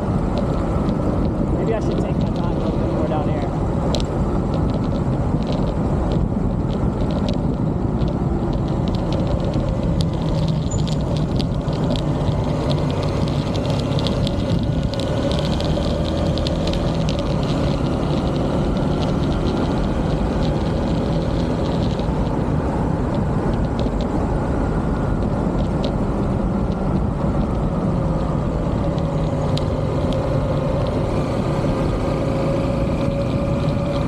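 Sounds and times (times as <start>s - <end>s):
motorbike engine running: 0.0s - 34.0s
wind rushing over microphone: 0.0s - 34.0s.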